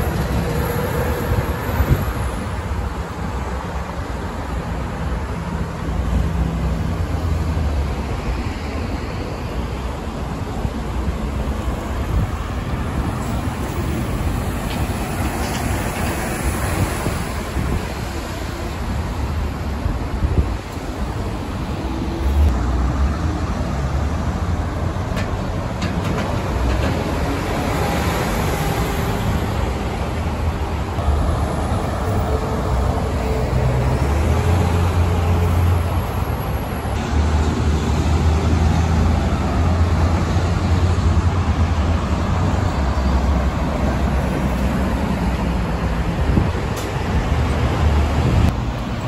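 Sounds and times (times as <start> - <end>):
buses and traffic rumble: 0.0 - 49.0.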